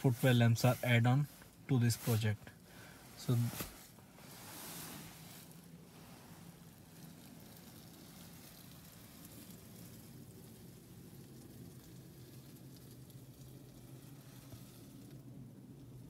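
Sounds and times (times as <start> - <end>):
faint low hum with hiss: 0.0 - 16.0.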